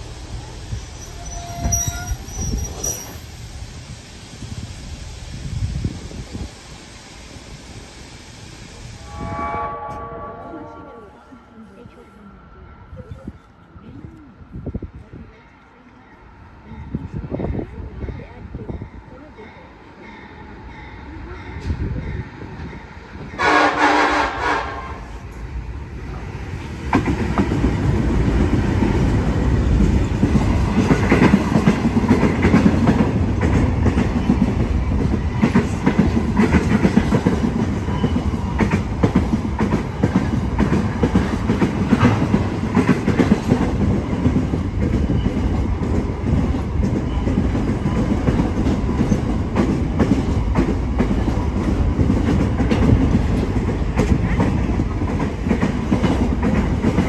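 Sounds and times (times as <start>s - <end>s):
diesel locomotive passing: 0.0s - 57.0s
freight train rumbling past: 0.0s - 57.0s.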